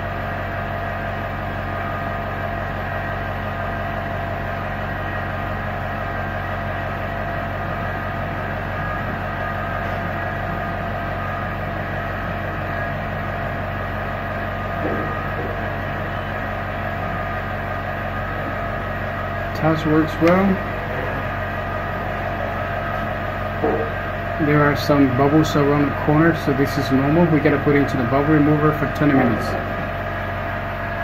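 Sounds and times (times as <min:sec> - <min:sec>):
workshop machinery humming: 0:00.0 - 0:31.0.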